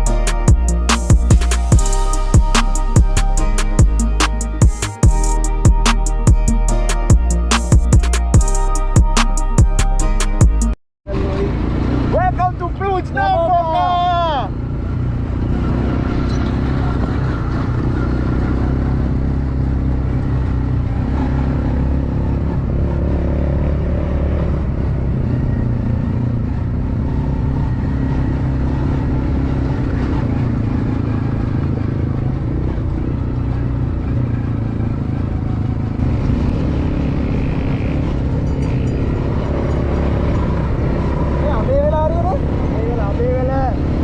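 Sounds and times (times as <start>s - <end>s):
off-road vehicle engine running: 0.0s - 44.0s.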